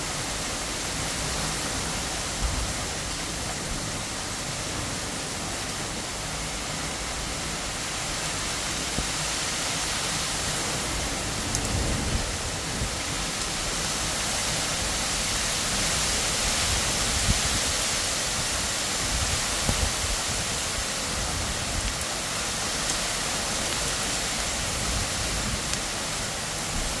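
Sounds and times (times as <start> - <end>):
heavy rain on tree leaves: 0.0 - 27.0.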